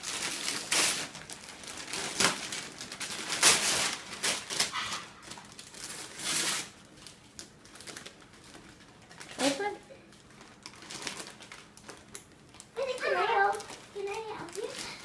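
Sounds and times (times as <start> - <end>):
wrapping paper crinkling and tearing: 0.0 - 15.0.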